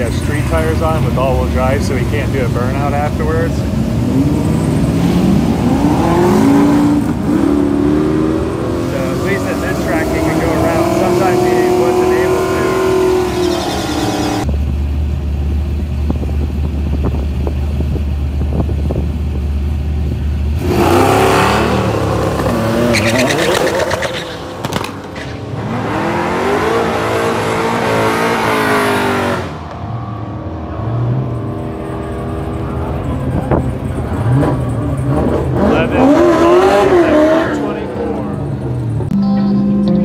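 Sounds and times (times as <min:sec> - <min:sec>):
car engine accelerating through gears: 0:00.0 - 0:14.5, 0:20.5 - 0:40.0.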